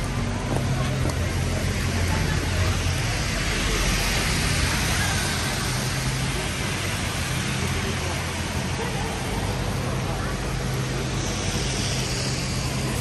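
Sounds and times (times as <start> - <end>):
rain and tyres hissing on wet road: 0.0 - 13.0
traffic rumbling: 0.0 - 13.0.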